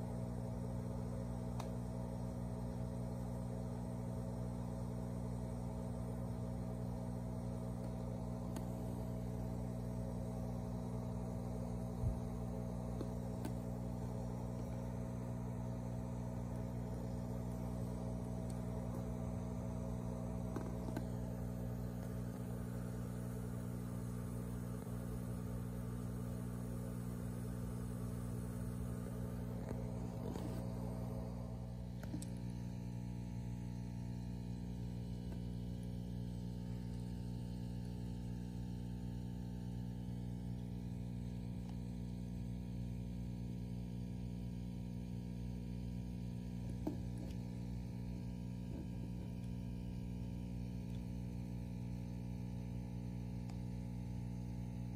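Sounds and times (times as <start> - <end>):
aquarium equipment hum: 0.0 - 54.9.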